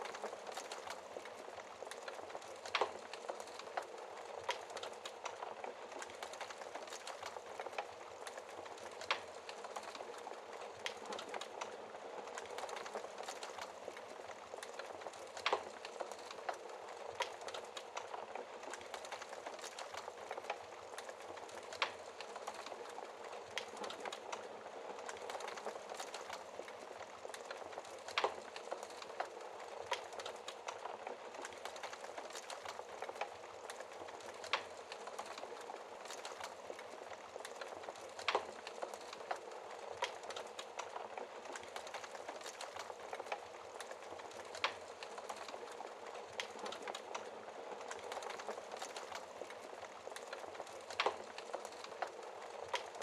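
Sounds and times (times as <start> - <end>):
burning logs popping: 0.0 - 53.0
wood fire crackling: 0.0 - 53.0.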